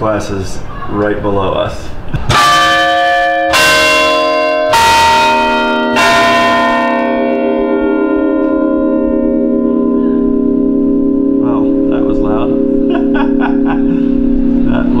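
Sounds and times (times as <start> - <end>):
tower chime bells struck: 2.3 - 15.0.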